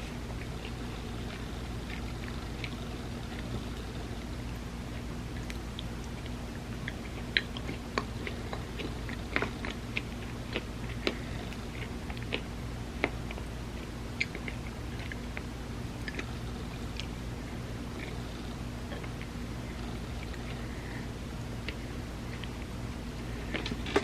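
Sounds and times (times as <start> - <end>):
chewing with wet mouth clicks: 0.0 - 21.0, 21.6 - 24.0
steady low hum: 0.0 - 24.0.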